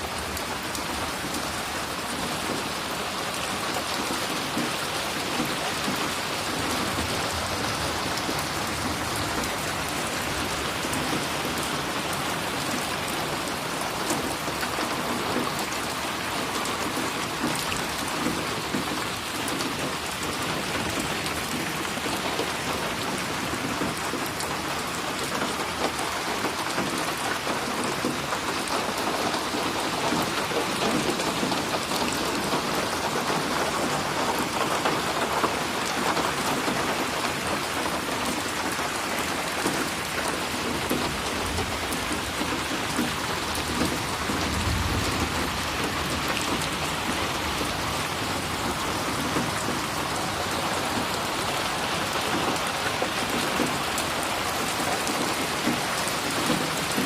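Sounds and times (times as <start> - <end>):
rain drops splashing: 0.0 - 57.0.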